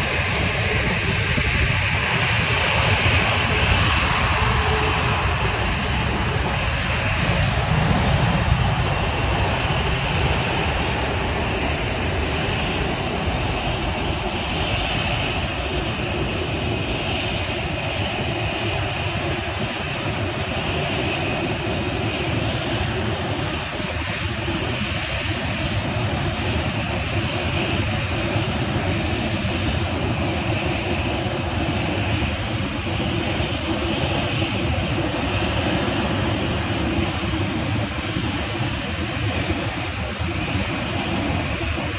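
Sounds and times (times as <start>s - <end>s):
jet engines idling: 0.0s - 41.9s.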